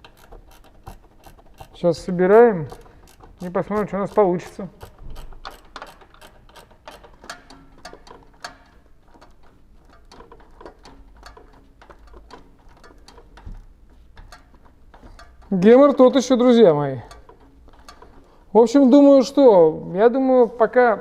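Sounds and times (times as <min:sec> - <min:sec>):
ratchet wrench clicking: 0:00.0 - 0:13.4, 0:14.2 - 0:18.3.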